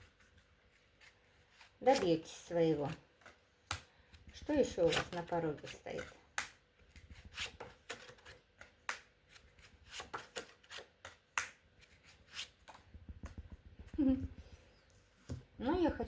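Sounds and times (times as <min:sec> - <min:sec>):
cards being shuffled: 0:00.0 - 0:14.0.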